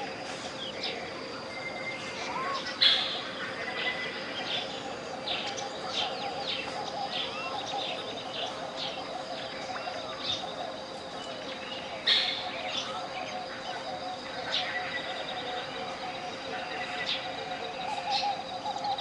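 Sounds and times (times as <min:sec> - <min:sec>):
birds chirping and calling: 0:00.0 - 0:19.0
steady pure tone: 0:00.0 - 0:19.0.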